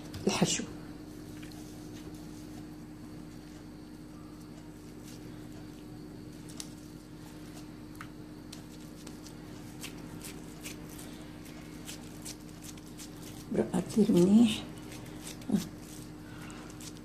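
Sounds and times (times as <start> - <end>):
soft squishing of dough: 1.0 - 17.0.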